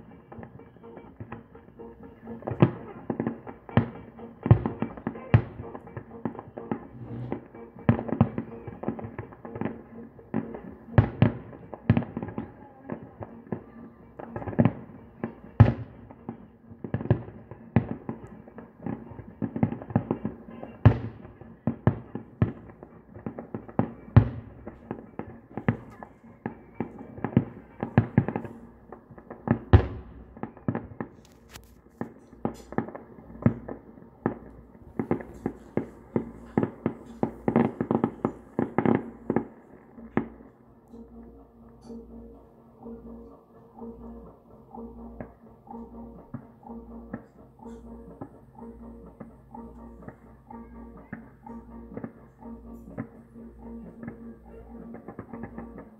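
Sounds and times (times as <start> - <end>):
distant fireworks bangs and crackles: 0.0 - 55.9.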